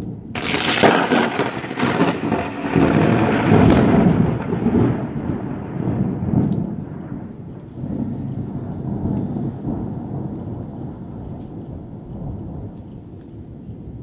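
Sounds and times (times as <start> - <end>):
thunder crack and rumble: 0.0 - 14.0.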